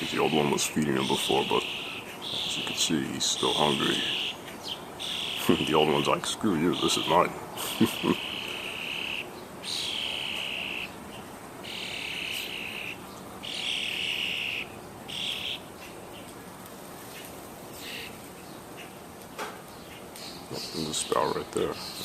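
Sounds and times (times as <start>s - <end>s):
fledgling bird buzzy begging calls: 0.0s - 16.4s, 17.1s - 19.1s.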